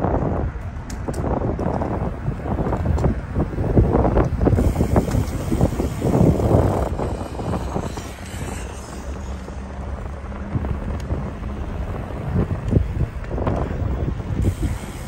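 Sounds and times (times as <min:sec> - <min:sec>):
bicycle rolling on pavement: 0:00.0 - 0:15.0
wind buffeting microphone: 0:00.0 - 0:15.0.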